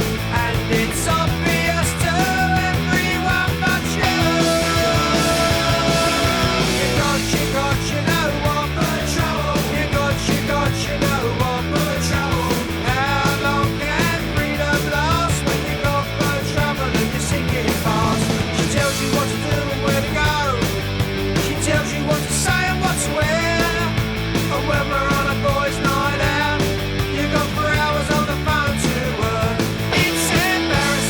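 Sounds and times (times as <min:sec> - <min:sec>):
punk rock band playing: 0:00.0 - 0:31.0.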